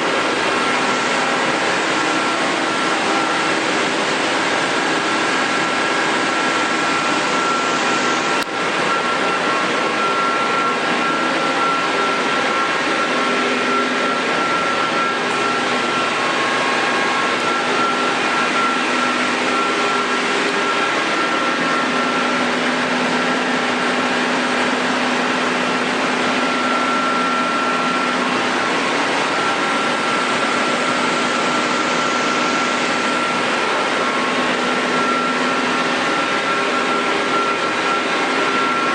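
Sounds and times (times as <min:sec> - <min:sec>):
lathe running with whine: 0:00.0 - 0:38.9.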